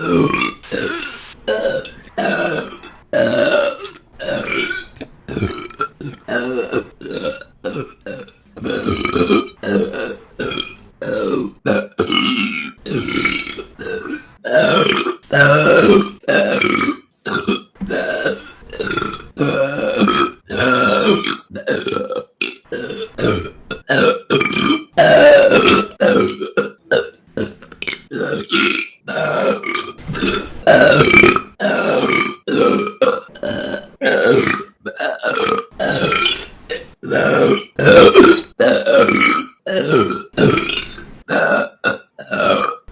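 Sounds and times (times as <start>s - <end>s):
woman burping: 0.0s - 42.9s.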